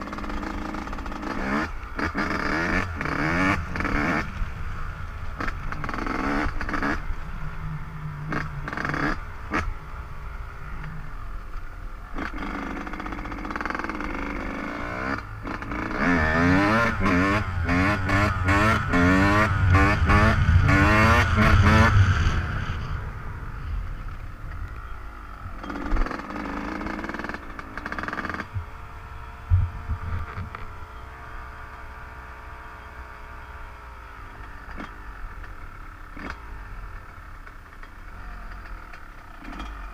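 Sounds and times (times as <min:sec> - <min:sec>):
dirt bike engine revving: 0:00.0 - 0:37.4, 0:38.0 - 0:39.9.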